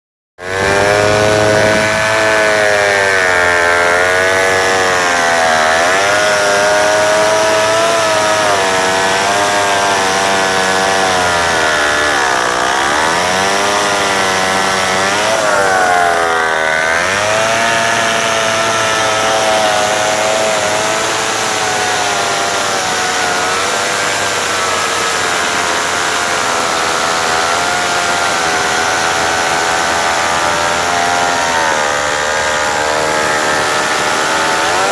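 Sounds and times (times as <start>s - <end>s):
chainsaw cutting log: 0.4s - 34.9s.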